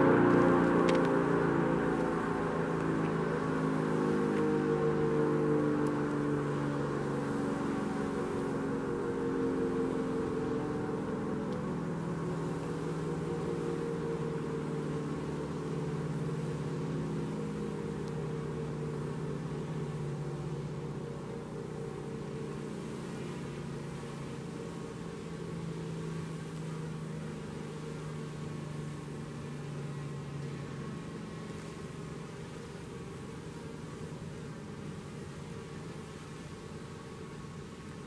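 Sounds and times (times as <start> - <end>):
drone propellers humming: 0.0 - 38.0.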